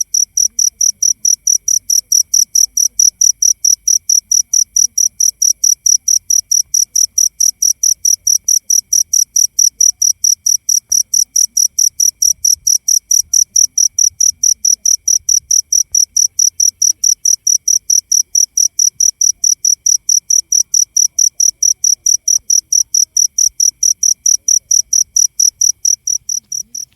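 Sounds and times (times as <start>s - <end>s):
insect chirping: 0.0s - 26.9s.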